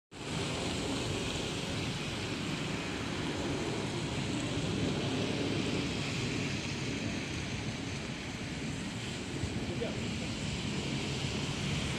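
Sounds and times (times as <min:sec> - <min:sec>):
street background rumble and hiss: 0:00.1 - 0:11.9.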